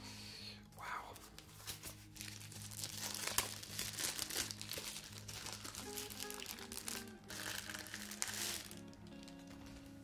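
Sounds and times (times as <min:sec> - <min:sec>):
background music: 0:00.0 - 0:10.0
packaging wrap crinkling: 0:01.3 - 0:10.0.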